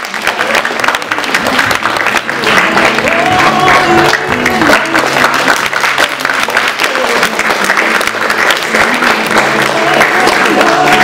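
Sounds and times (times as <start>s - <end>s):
audience applauding: 0.0s - 11.0s
music playing: 0.0s - 11.0s.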